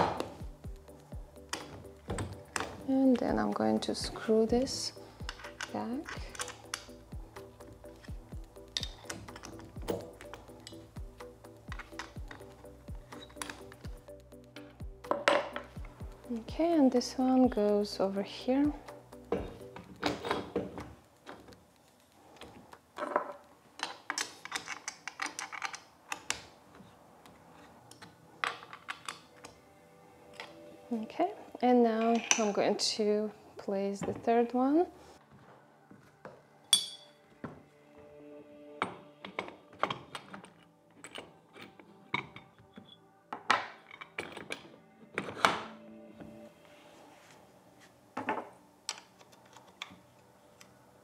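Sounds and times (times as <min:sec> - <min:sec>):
quiet background music: 0:00.0 - 0:51.0.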